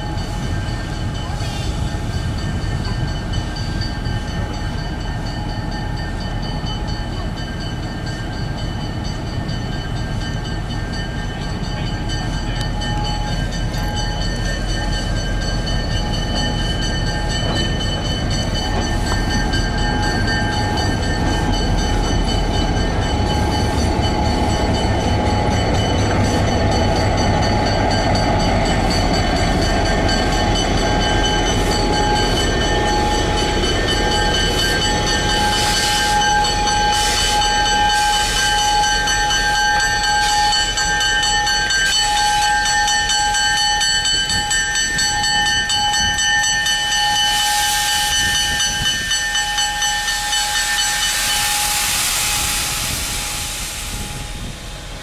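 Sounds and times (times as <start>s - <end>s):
diesel locomotive engine: 0.0s - 55.0s
train rolling: 0.0s - 55.0s.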